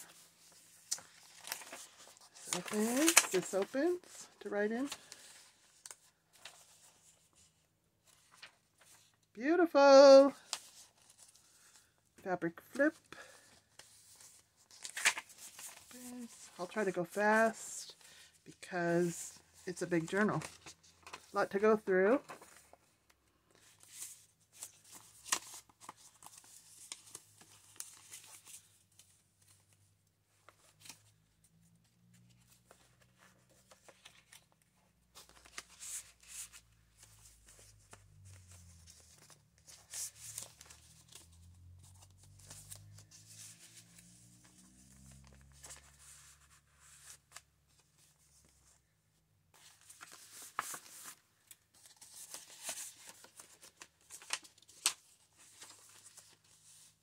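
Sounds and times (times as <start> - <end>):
paper pages rustling: 0.0 - 9.2, 10.4 - 12.0, 13.2 - 18.6, 19.3 - 48.9, 49.5 - 57.0.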